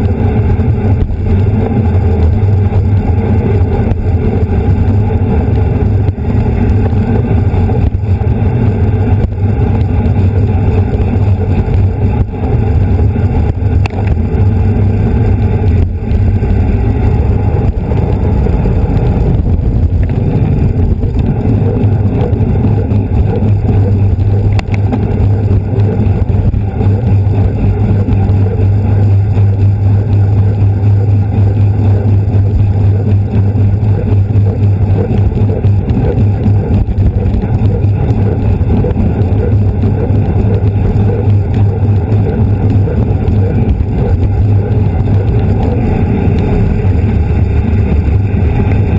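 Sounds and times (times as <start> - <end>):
road rumble: 0.0 - 48.9
wind rush on microphone: 0.0 - 48.9.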